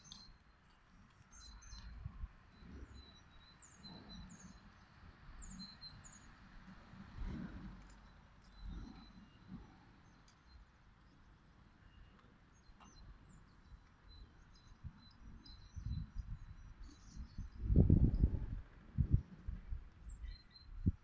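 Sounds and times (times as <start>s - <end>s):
small birds chirping: 0.0s - 6.4s, 8.0s - 18.4s, 20.0s - 21.0s
outdoor background noise: 0.0s - 21.0s.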